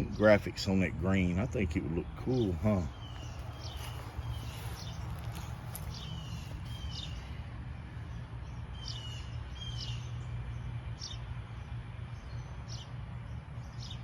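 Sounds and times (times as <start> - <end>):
steady low rumble: 0.0 - 13.9
birds chirping: 0.0 - 14.0.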